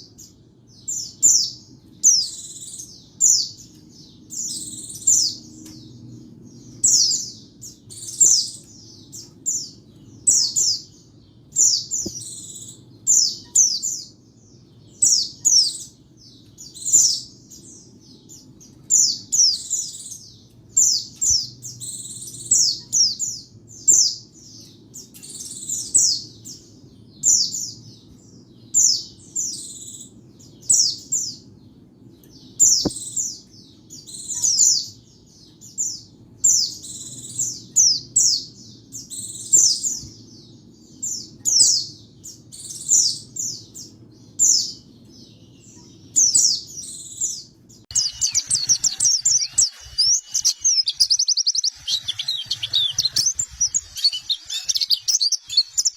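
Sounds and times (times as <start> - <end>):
bird chirping and twittering: 0.0 - 55.9.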